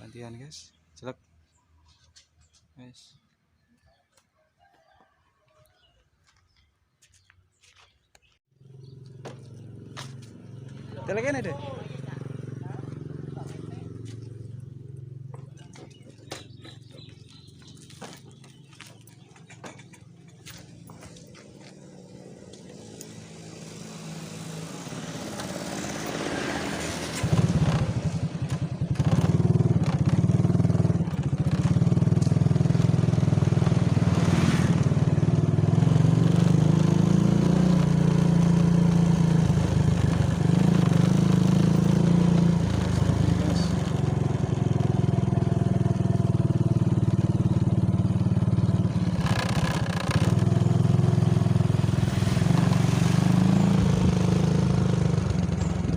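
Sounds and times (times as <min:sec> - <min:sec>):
vehicle engine running: 0:08.6 - 0:55.9.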